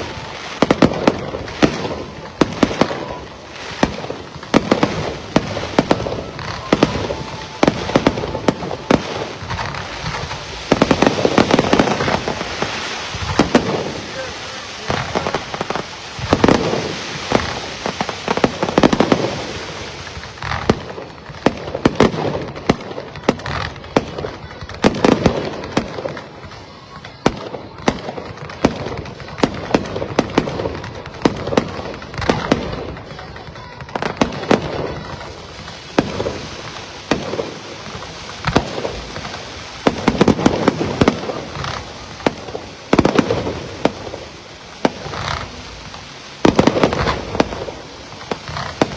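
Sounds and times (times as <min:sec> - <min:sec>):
sharp bangs and crackles: 0:00.0 - 0:48.9.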